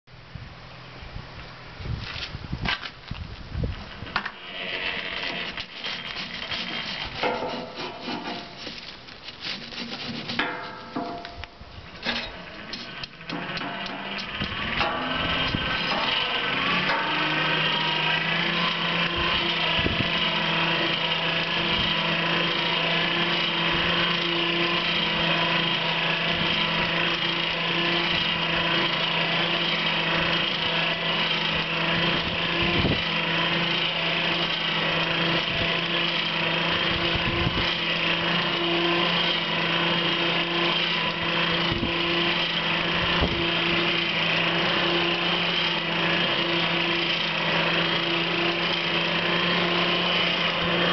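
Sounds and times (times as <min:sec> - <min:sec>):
forge air blower running: 0:03.9 - 0:50.9.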